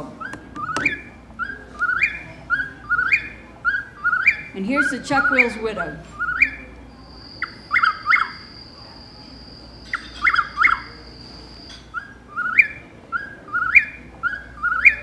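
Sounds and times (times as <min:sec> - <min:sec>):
recorded bird song from speaker: 0:00.0 - 0:15.0.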